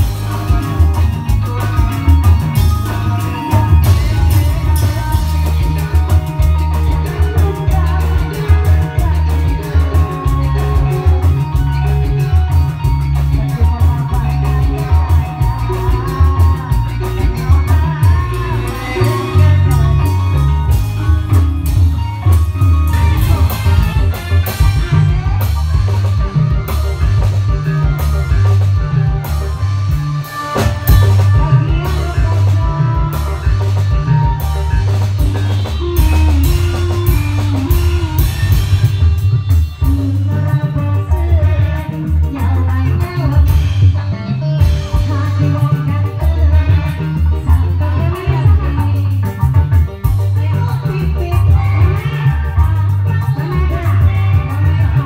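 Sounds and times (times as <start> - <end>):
amplified band music: 0.0 - 55.0
booming bass line: 0.0 - 55.0
drum kit beats: 0.0 - 55.0
guitar: 0.0 - 55.0
person singing: 0.0 - 55.0.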